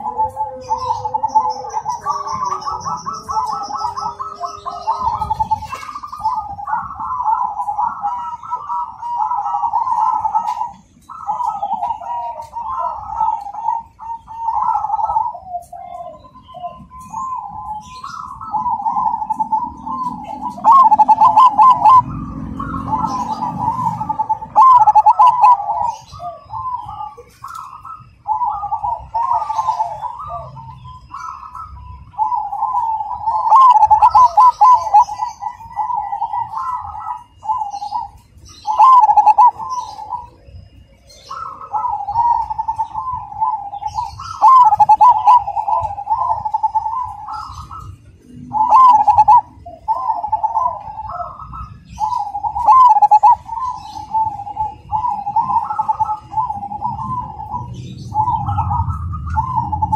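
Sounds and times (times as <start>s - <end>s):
dove cooing: 0.0s - 59.9s
small birds chirping: 0.0s - 59.9s.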